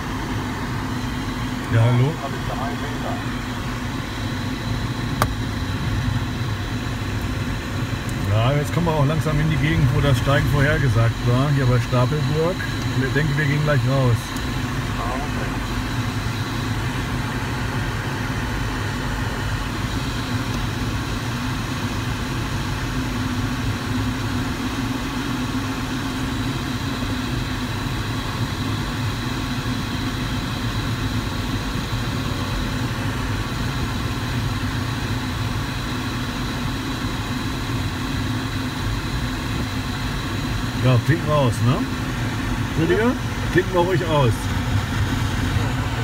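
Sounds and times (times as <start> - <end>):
airflow noise in glider cockpit: 0.0 - 46.0
tow plane engine drone: 0.0 - 46.0.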